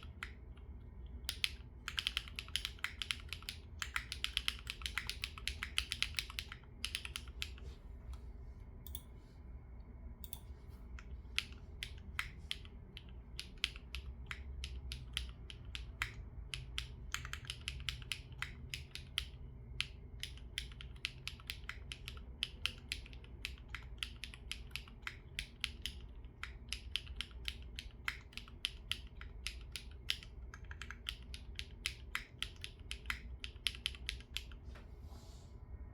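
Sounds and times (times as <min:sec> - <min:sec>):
mechanical keyboard typing: 0:01.2 - 0:07.6, 0:11.4 - 0:34.6.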